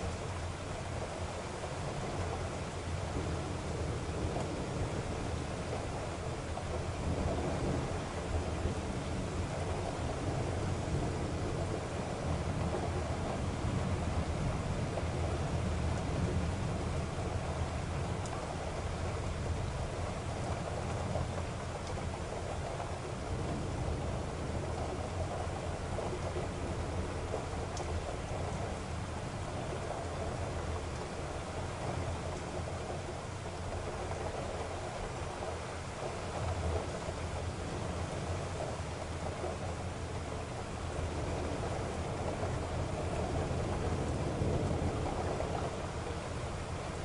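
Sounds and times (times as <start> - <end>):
rain hiss: 0.0 - 47.0.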